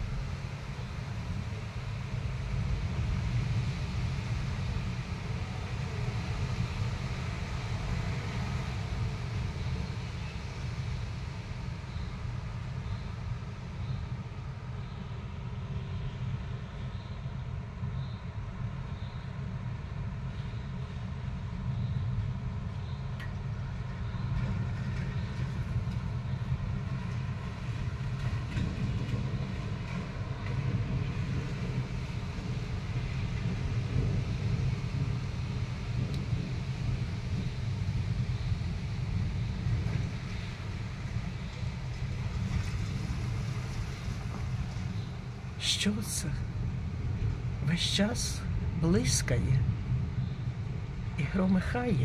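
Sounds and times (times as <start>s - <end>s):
continuous thunder rumble: 0.0s - 52.0s.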